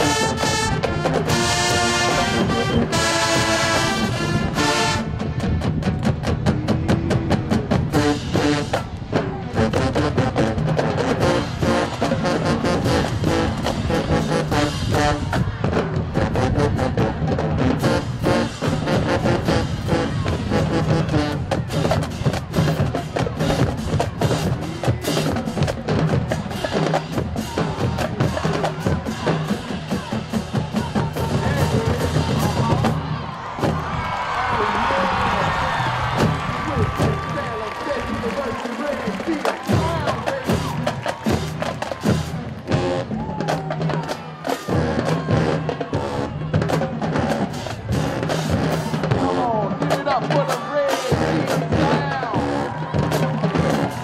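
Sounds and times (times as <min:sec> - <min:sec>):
brass and sousaphones: 0:00.0 - 0:33.8, 0:35.2 - 0:54.0
marching drumline: 0:00.0 - 0:34.6, 0:35.4 - 0:54.0.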